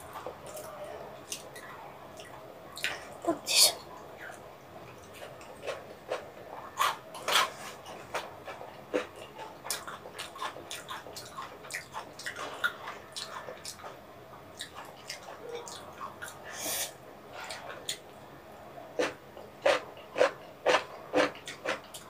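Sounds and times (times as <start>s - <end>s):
person chewing food: 0.0s - 3.1s, 4.2s - 16.5s, 17.3s - 18.2s, 18.9s - 22.0s.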